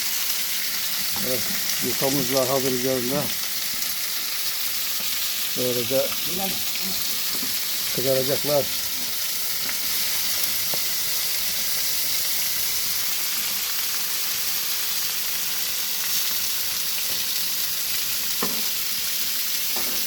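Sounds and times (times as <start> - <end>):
food frying sizzle: 0.0 - 20.0.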